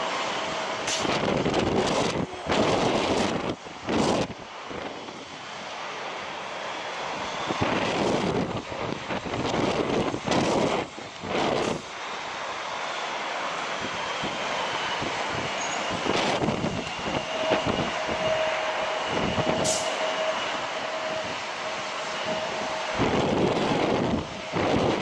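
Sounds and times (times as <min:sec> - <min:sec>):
jet engines whining: 0:00.0 - 0:25.0
wind gusts buffeting microphone: 0:00.0 - 0:25.0.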